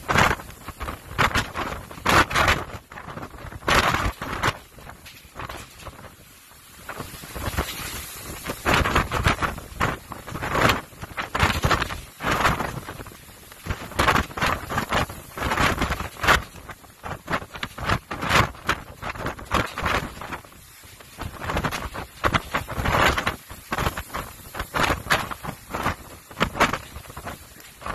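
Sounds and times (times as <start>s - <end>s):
rough sea breaking: 0.0s - 27.9s
wind buffeting microphone: 0.0s - 27.9s.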